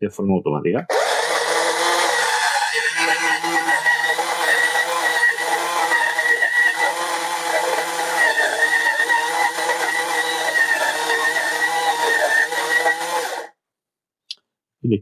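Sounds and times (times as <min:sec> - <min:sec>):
coffee grinder motor whine: 0:00.9 - 0:13.6.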